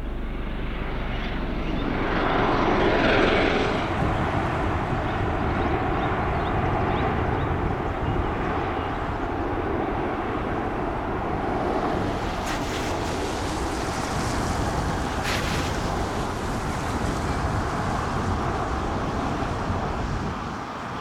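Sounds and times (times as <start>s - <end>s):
aircraft engines and rotors rumbling: 0.0s - 21.0s.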